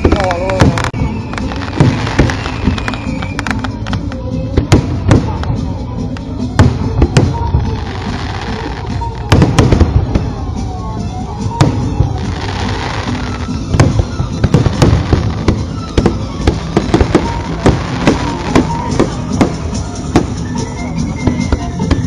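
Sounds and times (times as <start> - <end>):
fireworks bursting in sharp bangs: 0.0 - 10.7, 11.3 - 22.0.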